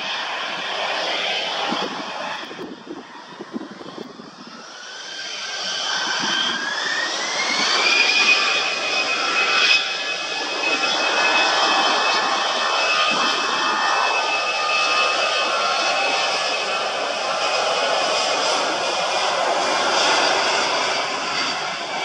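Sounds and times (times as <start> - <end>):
jet engines spooling up: 0.0 - 22.0.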